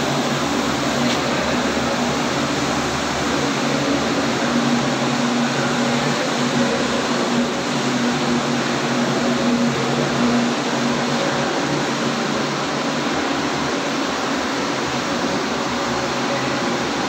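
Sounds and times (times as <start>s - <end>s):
generator low hum: 0.0s - 17.0s
turbine rushing whir: 0.0s - 17.0s.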